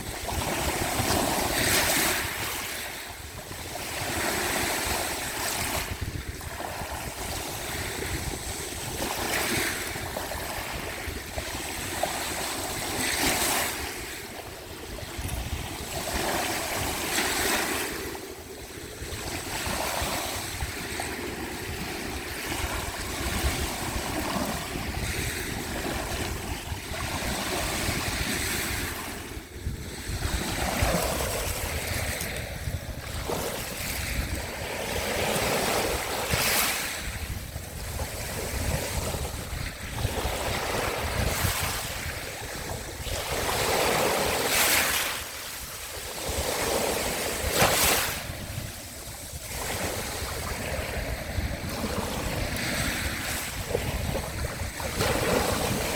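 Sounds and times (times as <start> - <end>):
sea waves washing onto shore: 0.0 - 55.9
wind rumbling on microphone: 0.0 - 55.9.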